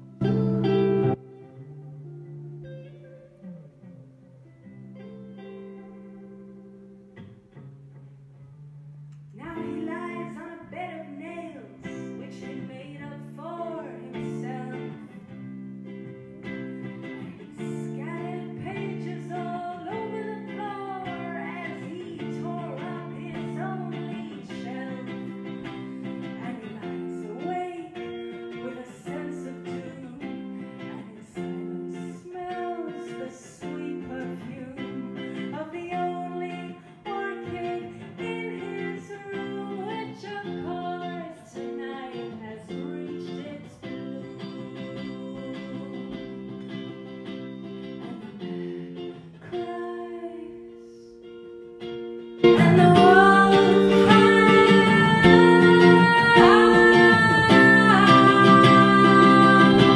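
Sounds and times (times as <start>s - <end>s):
electric guitar chords: 0.0s - 59.9s
woman singing: 9.3s - 51.5s, 52.4s - 59.9s.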